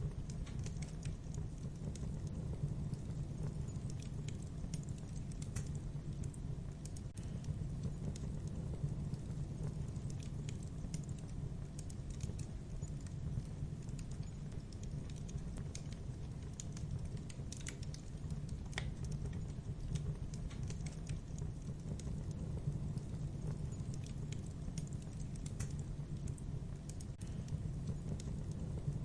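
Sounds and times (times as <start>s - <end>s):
fire crackling and popping: 0.0s - 29.0s
low rumble of fire: 0.0s - 29.0s.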